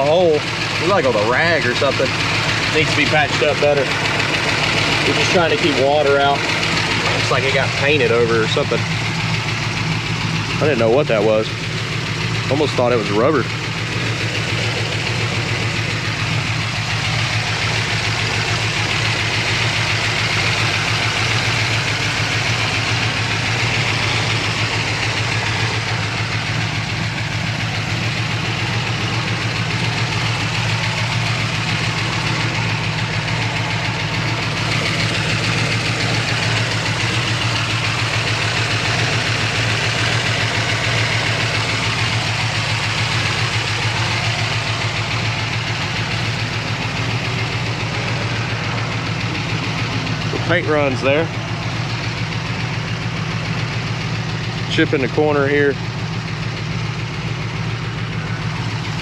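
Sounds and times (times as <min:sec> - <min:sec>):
engine idling: 0:00.0 - 0:59.0
engine lifter ticking: 0:00.0 - 0:59.0.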